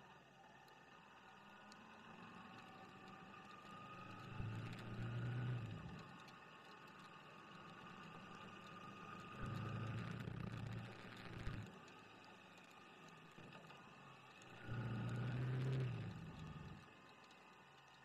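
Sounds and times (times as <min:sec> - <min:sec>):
vehicle engines in traffic: 0:00.4 - 0:18.0.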